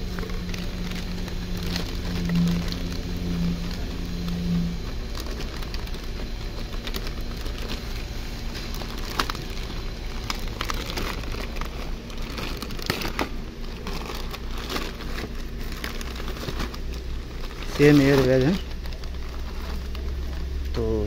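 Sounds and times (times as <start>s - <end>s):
plastic bag crinkling and tearing: 0.0s - 21.0s.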